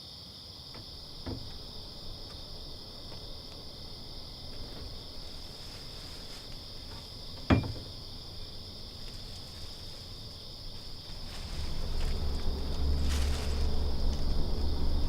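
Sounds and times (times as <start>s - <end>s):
low rumble: 0.9s - 15.0s.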